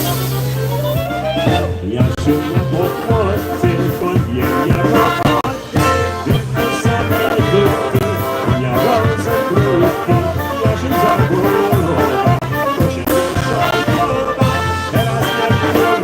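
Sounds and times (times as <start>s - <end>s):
polka band playing: 0.0s - 16.0s.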